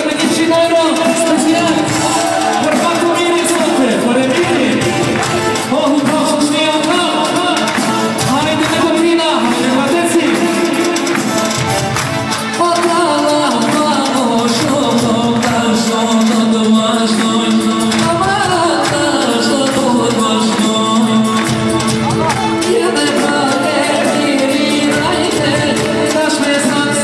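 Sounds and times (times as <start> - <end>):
man singing into microphone: 0.0 - 11.6, 12.3 - 27.0
amplified backing music with fast beat: 0.0 - 27.0.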